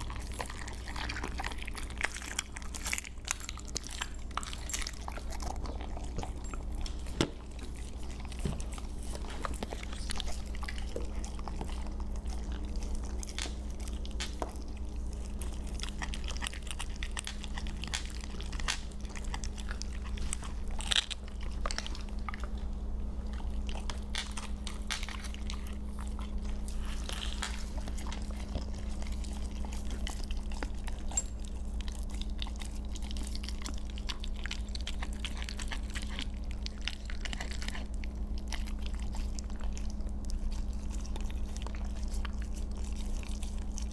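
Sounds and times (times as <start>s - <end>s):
dogs crunching bones: 0.0s - 43.9s
steady low hum: 0.0s - 43.9s.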